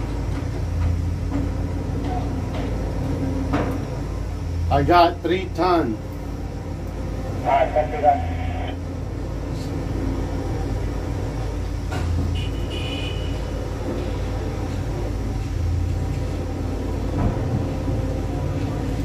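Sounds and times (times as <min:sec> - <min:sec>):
crane machinery drone: 0:00.0 - 0:19.0.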